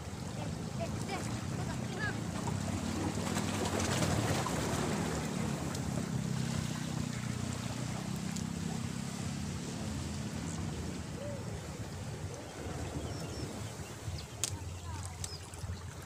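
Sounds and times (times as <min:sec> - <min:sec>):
sea water washing against rocks: 0:00.0 - 0:16.0
wind rumble on microphone: 0:00.0 - 0:16.0.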